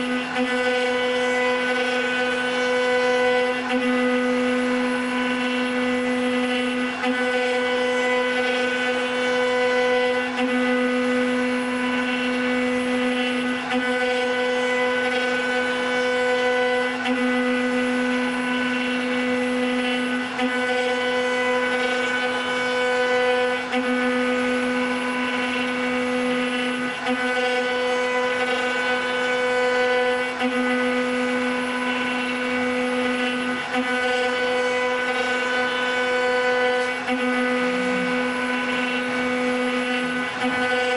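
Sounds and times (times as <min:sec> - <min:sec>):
cnc router spindle whining: 0:00.0 - 0:40.9.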